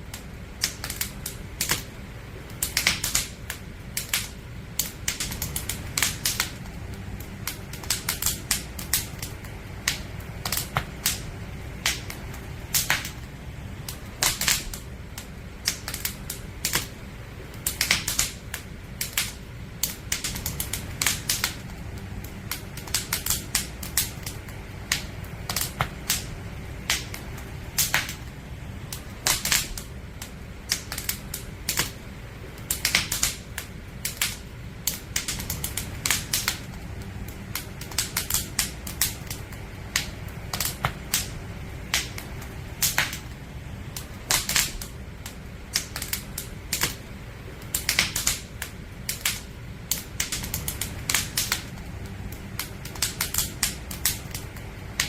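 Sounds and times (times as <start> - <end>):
campfire logs crackling: 0.0 - 55.0
low rumble: 0.0 - 55.0.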